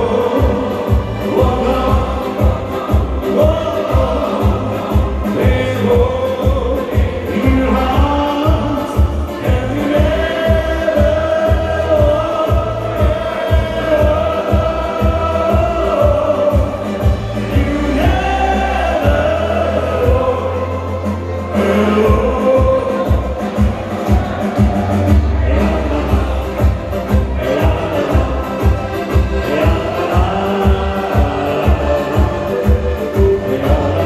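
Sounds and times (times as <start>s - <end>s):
music with steady beat: 0.0s - 34.0s.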